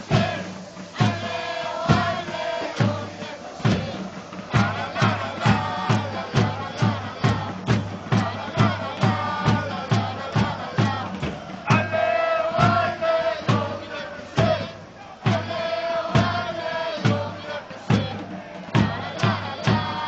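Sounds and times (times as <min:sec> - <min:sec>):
bass drum beating: 0:00.0 - 0:17.3
crowd singing a chant: 0:00.0 - 0:20.0.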